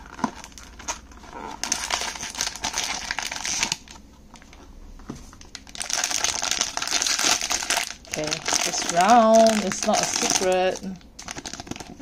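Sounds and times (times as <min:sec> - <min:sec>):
foil bag crinkling: 0:00.0 - 0:04.6, 0:05.4 - 0:12.0.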